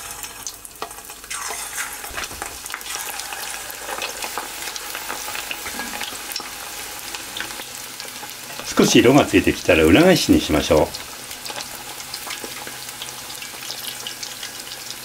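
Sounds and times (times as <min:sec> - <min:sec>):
shrimp deep-frying in oil: 0:00.0 - 0:15.0.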